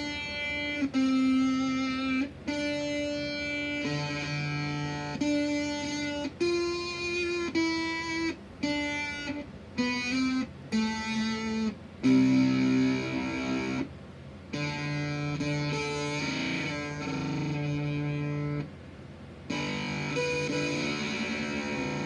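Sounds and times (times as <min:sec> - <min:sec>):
distorted electric guitar: 0:00.0 - 0:18.8, 0:19.4 - 0:22.0.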